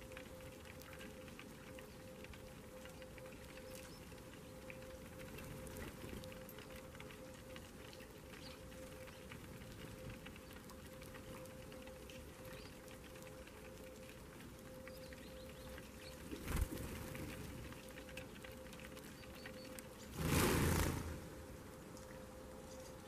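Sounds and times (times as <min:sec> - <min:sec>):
birds pecking seed: 0:00.0 - 0:23.0
low hum: 0:00.0 - 0:23.0.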